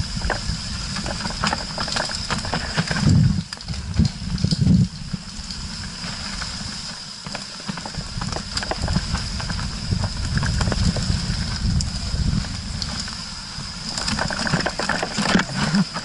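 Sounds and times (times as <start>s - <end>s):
bike clicks and rattles: 0.0s - 16.0s
tyres rumbling on dirt trail: 0.0s - 16.0s.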